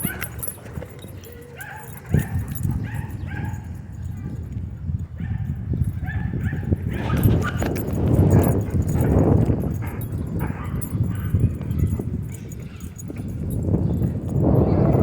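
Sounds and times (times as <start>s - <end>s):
dog making rough pulsing sounds: 0.0s - 4.4s, 5.4s - 15.0s
wind on microphone: 0.0s - 15.0s.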